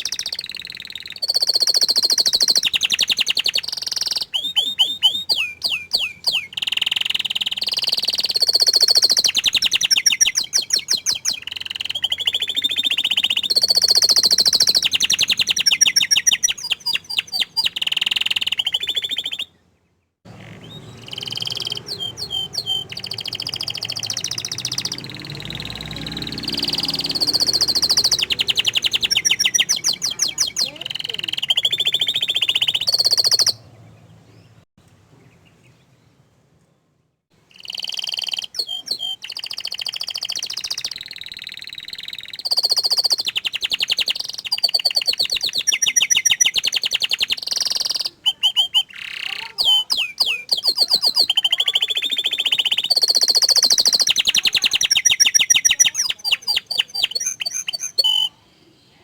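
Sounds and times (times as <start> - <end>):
canary singing trills: 0.0 - 34.6, 37.4 - 59.0.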